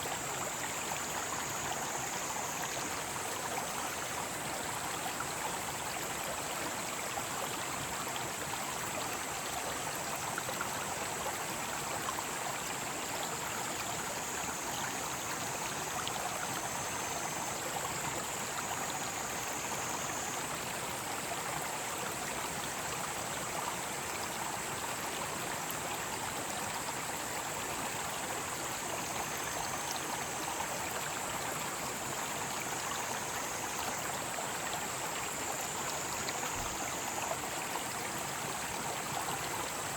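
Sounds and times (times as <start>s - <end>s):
cicadas chorus: 0.0s - 6.0s, 12.6s - 39.9s
mountain stream flowing: 0.0s - 39.9s.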